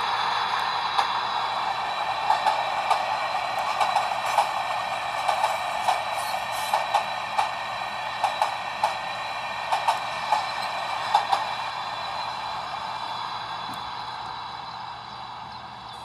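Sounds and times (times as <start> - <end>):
freight train rail roar: 0.0 - 16.0.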